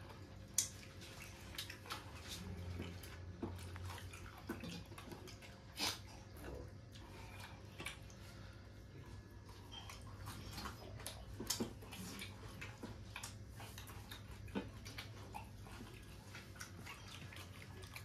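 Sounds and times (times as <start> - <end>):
people chewing food: 0.0 - 18.0
steady low hum: 0.0 - 18.0.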